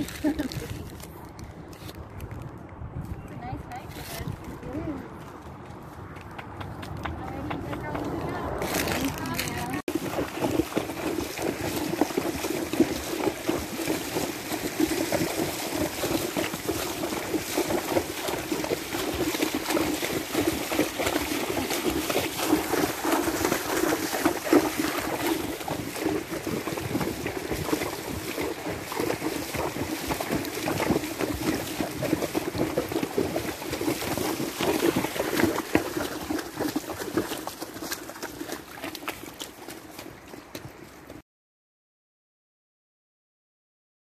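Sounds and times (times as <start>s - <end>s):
hooves splashing through water: 0.0s - 41.2s.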